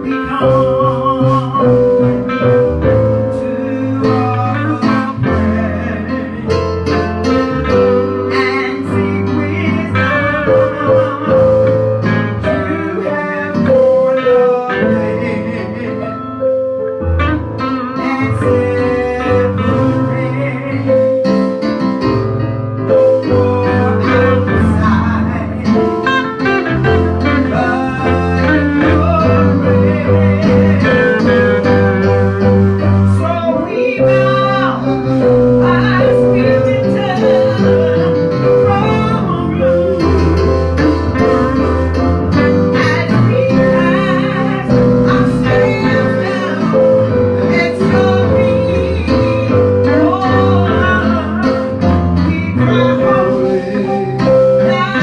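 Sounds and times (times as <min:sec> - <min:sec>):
church band music: 0:00.0 - 0:55.0
steady bass line: 0:00.0 - 0:55.0.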